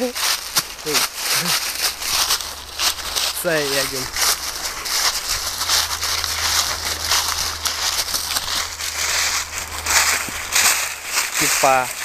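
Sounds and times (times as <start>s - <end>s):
dry leaves rustling and crackling: 0.0s - 12.0s
steady low rumble: 0.0s - 12.0s.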